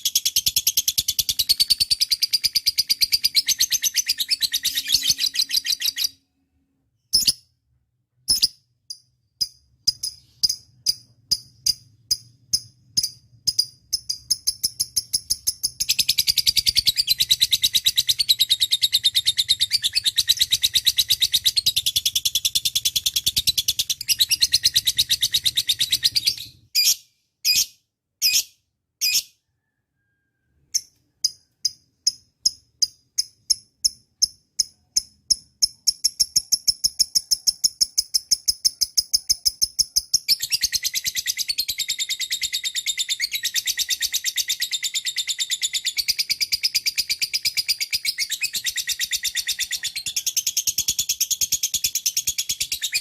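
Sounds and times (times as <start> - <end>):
sharp bird chirps: 0.0 - 53.0.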